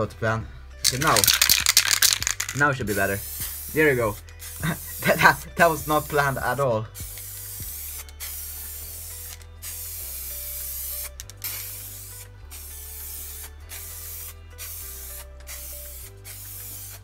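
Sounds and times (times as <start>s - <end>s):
background music with low bass: 0.0s - 17.0s
spray paint can hissing: 0.8s - 17.0s.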